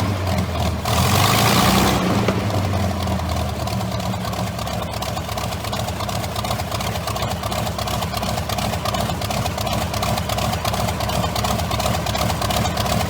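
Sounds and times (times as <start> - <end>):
aero engine running steadily: 0.0 - 13.0.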